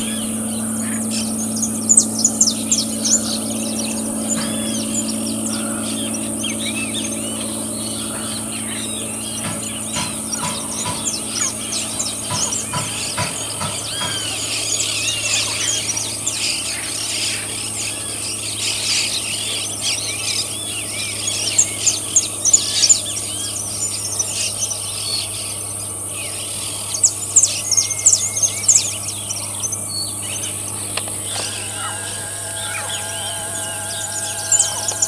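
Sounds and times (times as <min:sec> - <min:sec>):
birds chirping and calling: 0:00.0 - 0:35.0
faint low hum: 0:00.0 - 0:35.0
high-pitched insect drone: 0:00.0 - 0:35.0.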